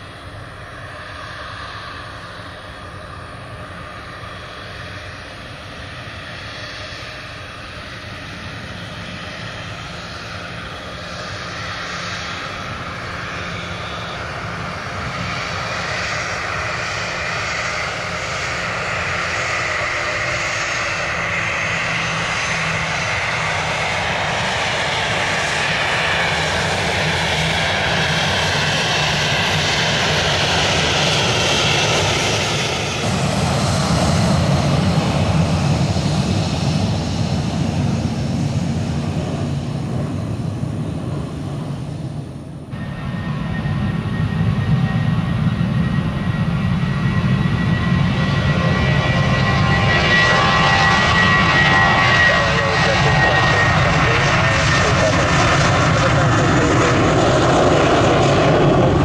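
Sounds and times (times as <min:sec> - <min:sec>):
jet airliner engines: 0:00.0 - 0:59.0.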